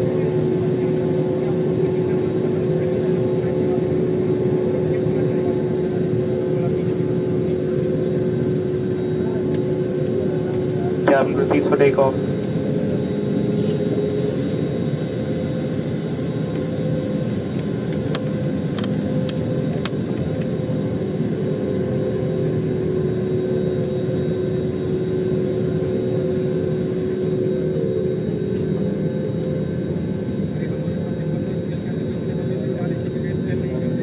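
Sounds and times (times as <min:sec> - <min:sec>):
jet engine cabin hum: 0:00.0 - 0:34.0.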